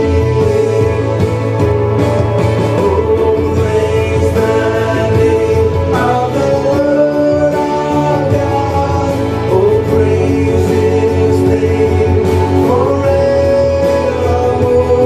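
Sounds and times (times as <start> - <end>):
person singing: 0.0 - 15.0
worship song with guitar: 0.0 - 15.0.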